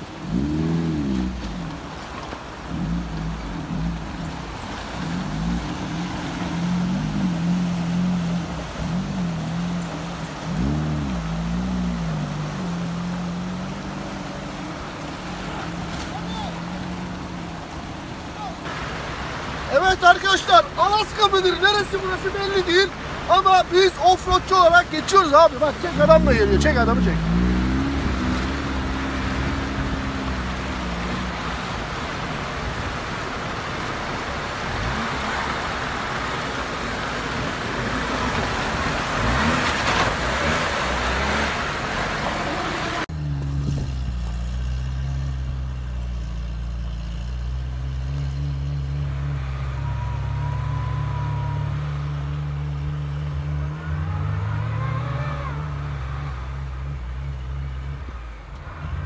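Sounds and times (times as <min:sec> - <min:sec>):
car engine running low: 0:00.0 - 0:19.7, 0:20.7 - 0:59.0
stream rushing over stones: 0:00.0 - 0:59.0
vehicle engine at low revs: 0:00.0 - 0:59.0.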